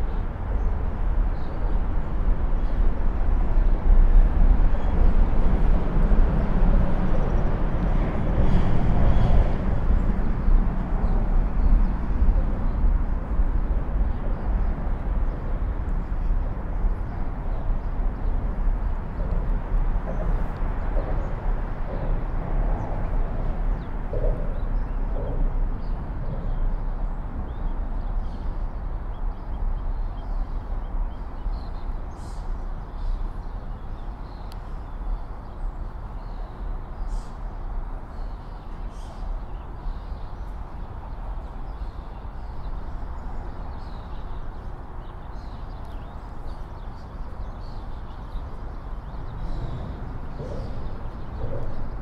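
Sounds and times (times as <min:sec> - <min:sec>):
distant traffic rumble: 0:00.0 - 0:52.0.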